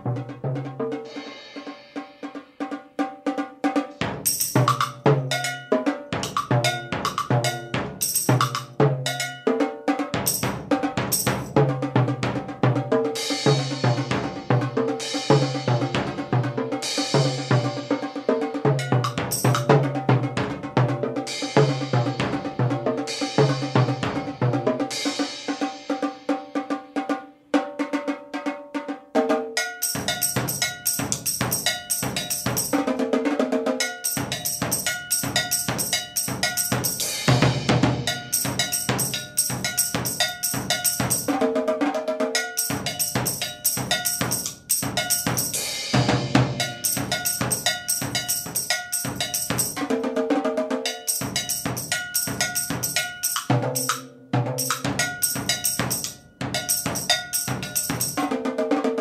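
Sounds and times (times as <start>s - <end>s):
drum kit beat: 0.0s - 59.0s.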